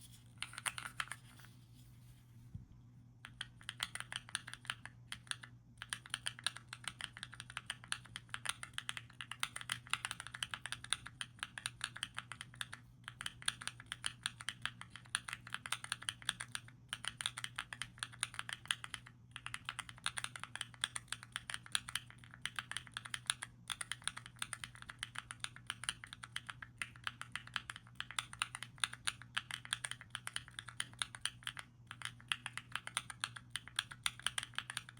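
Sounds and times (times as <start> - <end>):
fast typing on mechanical keyboard: 3.3 - 34.9.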